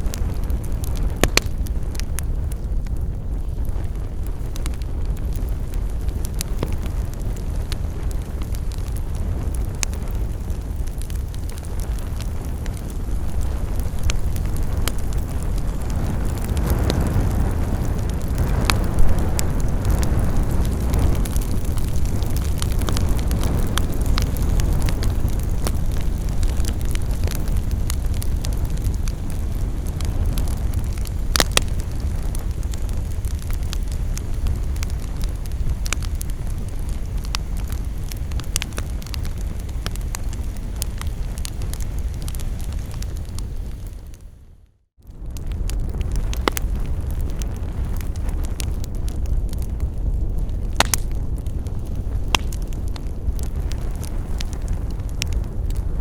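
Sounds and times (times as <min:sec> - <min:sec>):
burning wood crackling and popping: 0:00.0 - 0:56.0
campfire flames roaring: 0:00.0 - 0:56.0.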